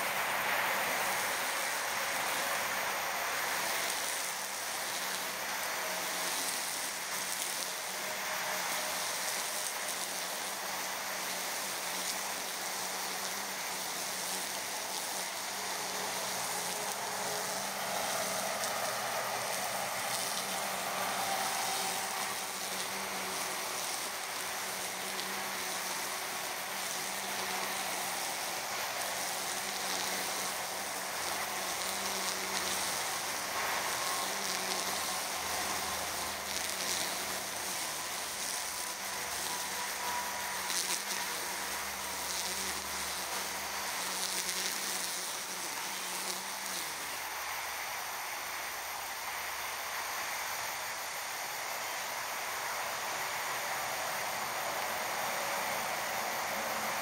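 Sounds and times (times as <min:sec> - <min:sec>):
string trimmer cutting grass: 0:00.0 - 0:57.0.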